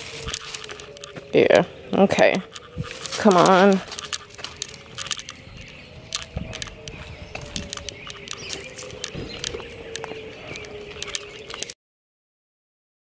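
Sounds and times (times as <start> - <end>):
footsteps on leaves and concrete: 0.0 - 11.7.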